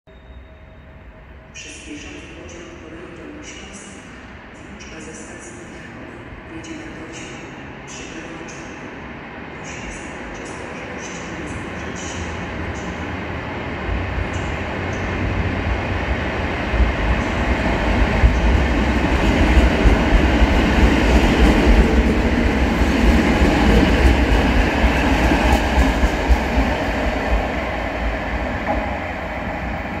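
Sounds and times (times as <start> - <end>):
electric train rumbling: 0.1 - 30.0.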